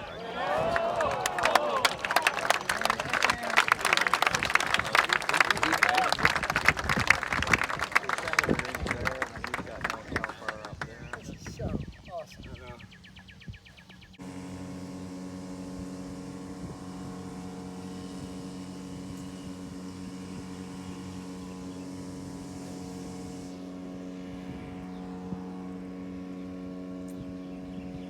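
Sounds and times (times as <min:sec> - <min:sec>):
motor humming steadily: 0:00.0 - 0:28.0.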